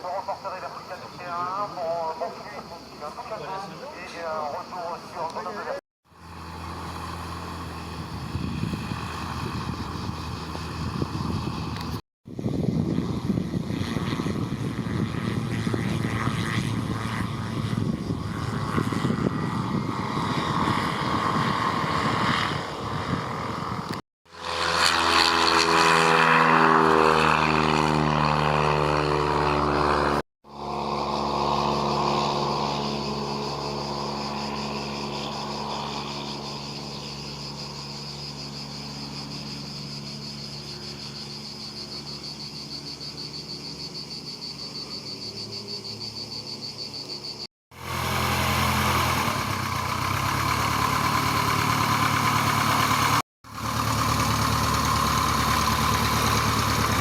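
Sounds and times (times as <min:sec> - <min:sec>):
propeller aircraft engine: 0:00.0 - 0:57.0.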